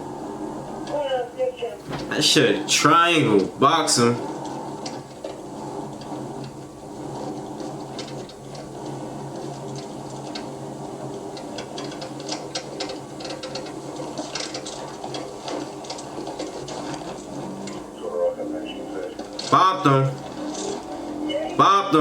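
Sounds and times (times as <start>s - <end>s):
rapid clicking and rattling: 0.0s - 22.0s
vehicle engine running: 0.0s - 22.0s.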